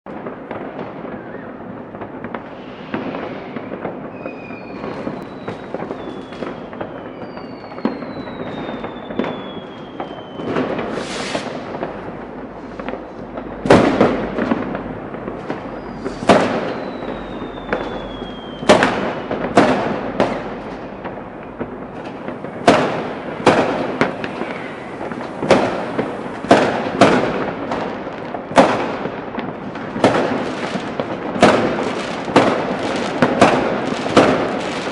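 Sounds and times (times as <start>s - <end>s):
firecrackers crackling: 0.1s - 34.9s
loud firework bangs: 0.1s - 34.9s
falling firework whistles: 1.0s - 1.7s, 2.3s - 11.9s, 12.5s - 21.2s, 21.8s - 27.9s, 30.0s - 34.9s.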